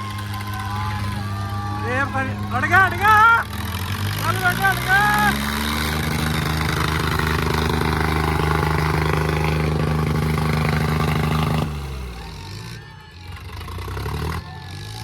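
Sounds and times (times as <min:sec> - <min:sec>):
tractor diesel engine straining: 0:00.0 - 0:15.0.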